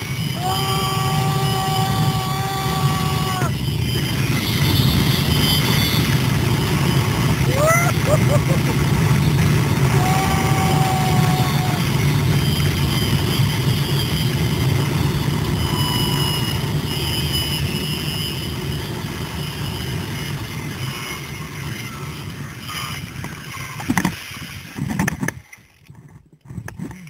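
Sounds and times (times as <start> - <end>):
zipline trolley whirring on cable: 0.0 - 26.0
rush of wind: 0.0 - 27.0.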